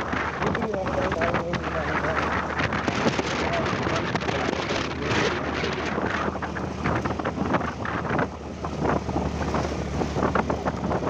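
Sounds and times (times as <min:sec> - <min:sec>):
scooter engine hum: 0:00.0 - 0:11.0
wind on microphone: 0:00.0 - 0:11.0.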